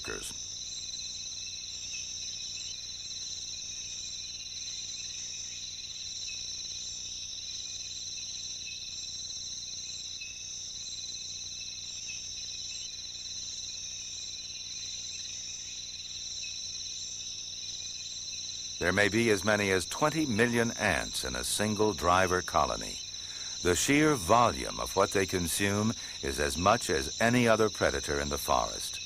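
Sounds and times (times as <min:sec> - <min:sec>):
insect chorus chirring: 0:00.0 - 0:29.0.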